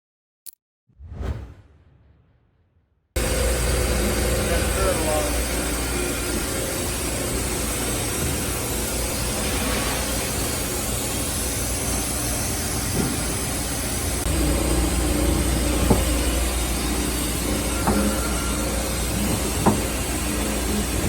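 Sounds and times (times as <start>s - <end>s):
lathe mechanical hum: 3.2s - 21.0s.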